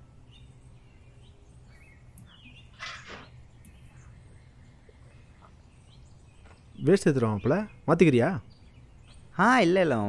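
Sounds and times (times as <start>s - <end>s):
faint bird chirps: 0.0s - 10.0s
low steady hum: 0.0s - 10.0s.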